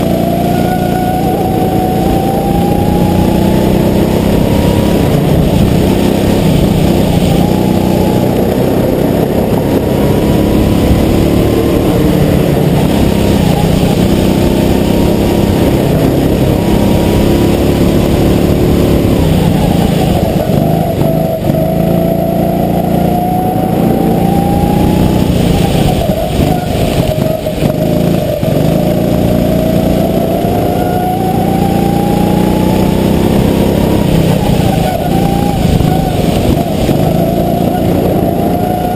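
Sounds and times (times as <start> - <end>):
go-kart engine running hard: 0.0 - 38.9.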